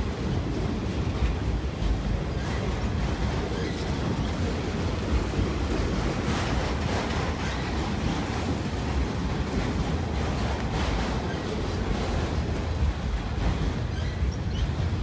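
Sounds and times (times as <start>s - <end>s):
steel train wheels rumbling on rails: 0.0s - 15.0s.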